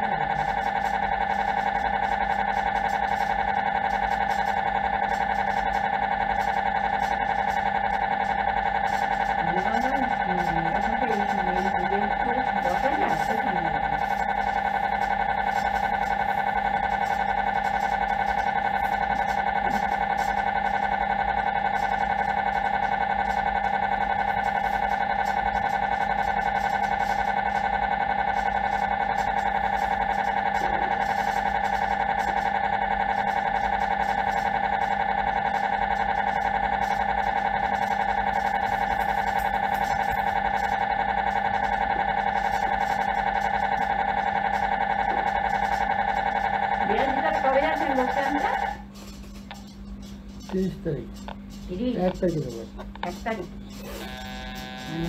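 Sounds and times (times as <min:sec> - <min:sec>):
mri scanner buzzing: 0:00.0 - 0:55.0.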